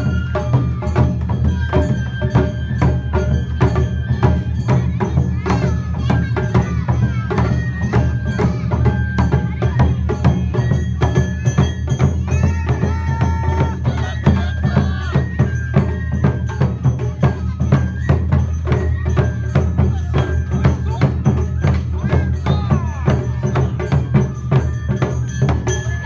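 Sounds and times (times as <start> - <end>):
fast percussion beat: 0.0 - 26.0.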